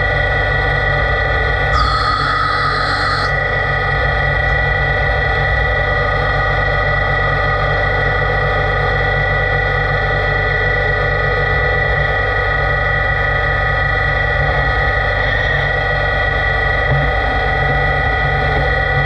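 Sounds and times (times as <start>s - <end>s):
lathe whining and humming: 0.0s - 19.0s.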